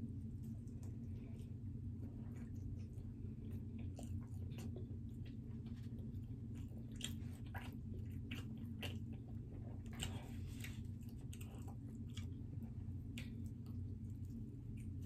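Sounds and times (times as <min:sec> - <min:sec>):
low hum: 0:00.0 - 0:15.0
person chewing pizza: 0:00.0 - 0:15.0.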